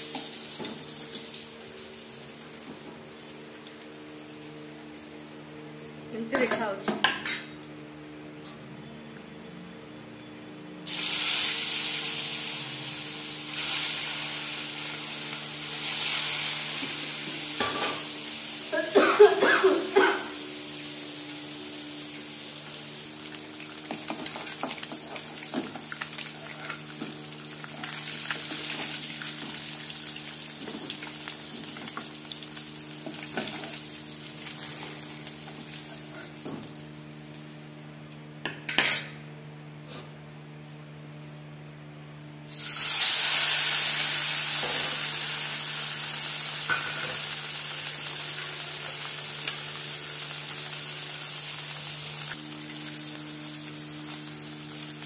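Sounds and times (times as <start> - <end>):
hot oil sizzling: 0.0 - 5.1, 10.8 - 37.6, 42.5 - 55.0.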